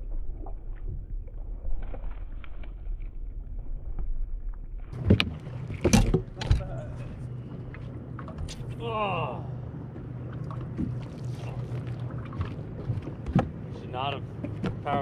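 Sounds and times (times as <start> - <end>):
wind and water rumble: 0.0 - 15.0.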